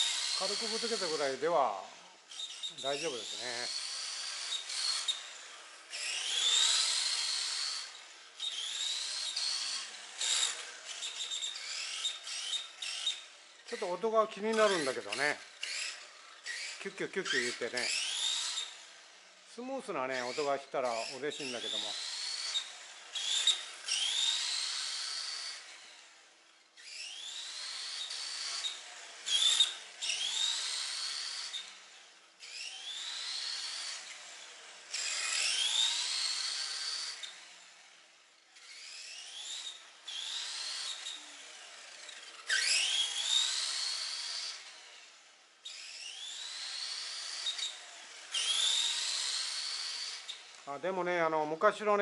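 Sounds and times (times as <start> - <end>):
toy car electric motor whining: 0.0 - 52.0.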